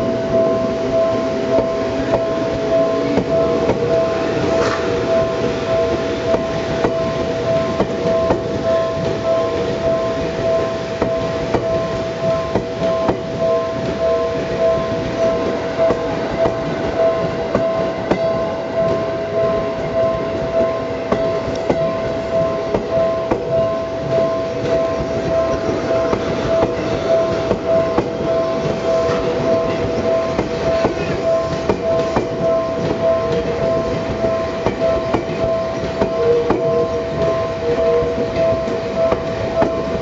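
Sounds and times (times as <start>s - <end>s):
level crossing warning bell: 0.0s - 40.0s
train wheels clicking over rail joints: 0.0s - 40.0s.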